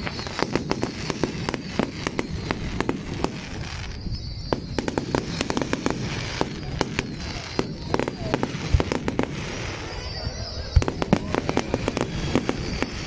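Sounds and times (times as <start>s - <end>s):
fireworks crackles and bangs: 0.0s - 13.0s.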